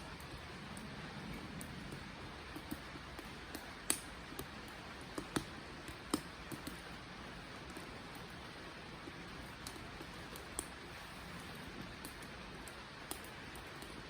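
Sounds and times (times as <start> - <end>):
fire crackles and pops: 0.0 - 14.0
wood fire hissing: 0.0 - 14.0.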